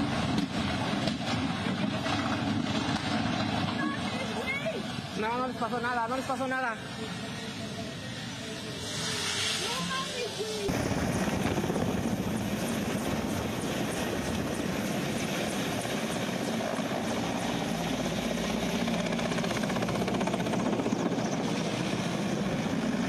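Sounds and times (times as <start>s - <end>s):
helicopter engines rushing: 0.0s - 23.0s
helicopter rotor chopping: 0.0s - 23.0s.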